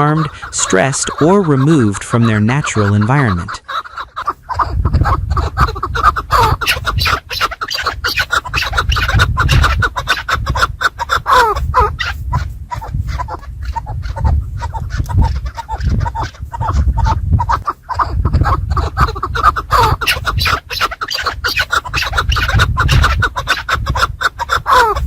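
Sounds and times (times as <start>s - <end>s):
partridges chattering calls: 0.0s - 25.0s.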